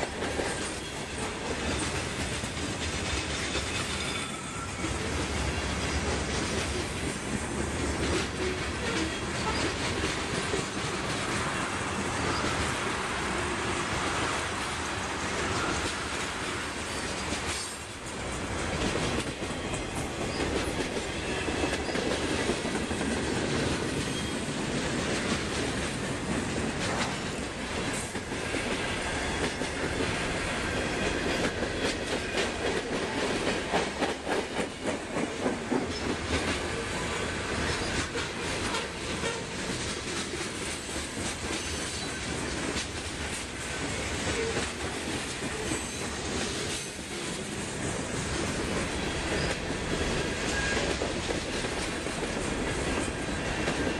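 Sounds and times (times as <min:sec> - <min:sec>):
wheels clacking over rail joints: 0:00.0 - 0:12.8, 0:15.4 - 0:47.1
freight train rumble: 0:00.0 - 0:53.9.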